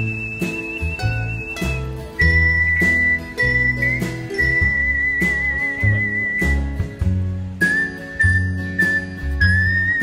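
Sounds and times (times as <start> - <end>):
deep bass notes: 0.0 - 10.0
whistled melody: 0.0 - 10.0.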